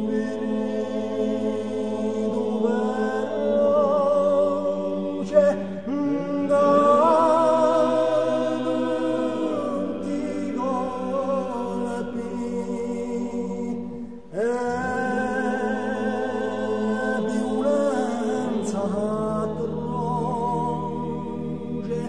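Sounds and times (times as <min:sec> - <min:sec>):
male choir singing a cappella: 0:00.0 - 0:22.0.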